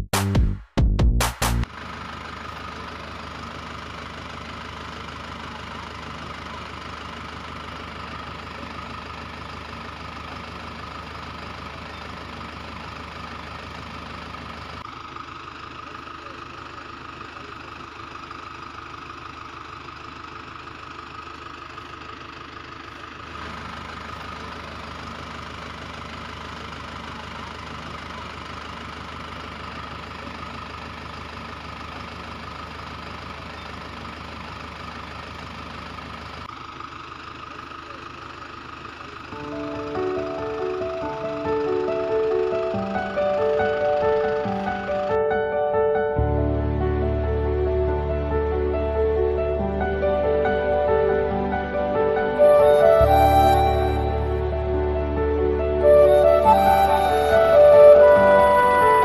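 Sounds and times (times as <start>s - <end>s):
tractor engine idling: 1.3s - 59.0s.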